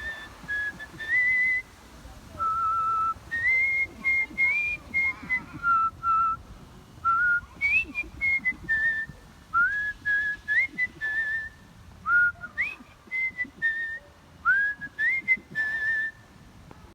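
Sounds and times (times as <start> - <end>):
person whistling a melody: 0.0 - 1.6, 2.4 - 6.4, 7.0 - 16.2.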